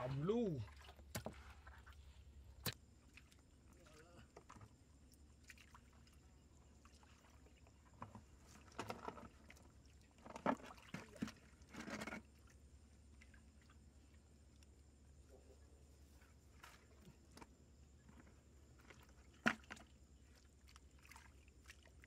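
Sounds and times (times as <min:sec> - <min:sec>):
water sloshed with a bucket: 0:00.0 - 0:14.7, 0:16.0 - 0:22.0.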